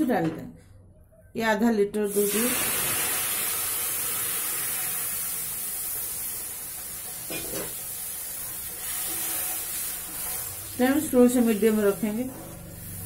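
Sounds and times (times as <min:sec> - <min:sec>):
milk sizzling in a hot pan: 0:02.1 - 0:13.0.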